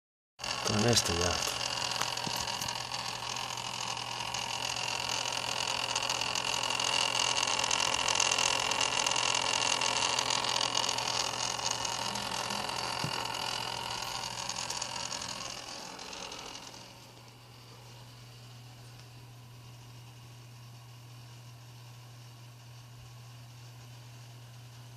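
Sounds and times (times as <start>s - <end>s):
cooler rushing whirring noise: 0.4s - 24.1s
faint high whine: 0.5s - 20.5s.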